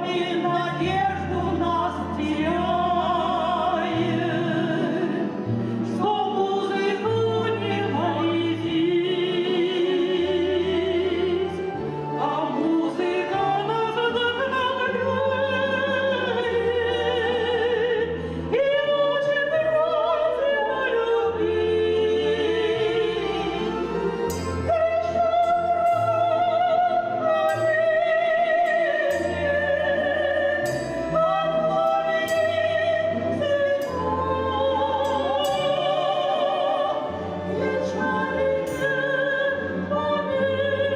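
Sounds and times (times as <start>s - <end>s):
musical accompaniment with stepping bass: 0.0s - 40.9s
person singing with wide vibrato: 0.0s - 40.9s.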